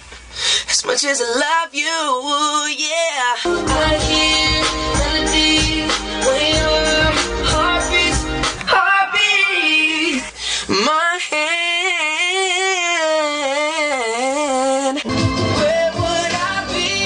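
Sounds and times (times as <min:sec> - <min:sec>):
pop backing track: 0:00.0 - 0:17.0
boy singing with vibrato: 0:00.7 - 0:17.0.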